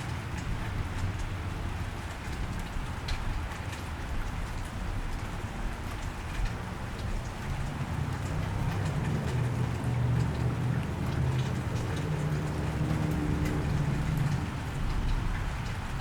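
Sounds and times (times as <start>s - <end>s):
rain falling on a wet street: 0.0s - 16.0s.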